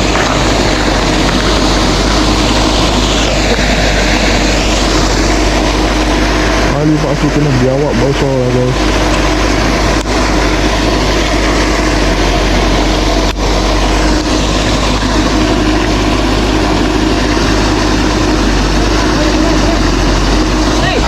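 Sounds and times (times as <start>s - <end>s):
engine-like drone with hiss: 0.0s - 21.0s.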